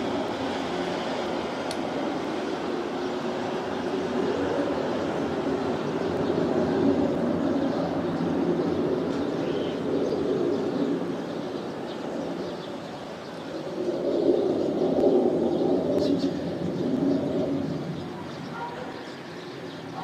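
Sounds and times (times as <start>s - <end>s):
distant jet rumble: 0.0s - 20.0s.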